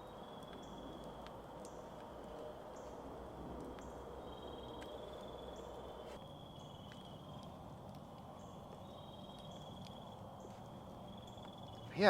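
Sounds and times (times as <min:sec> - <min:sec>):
campfire crackling: 0:00.0 - 0:12.0
crickets trilling: 0:00.0 - 0:12.0.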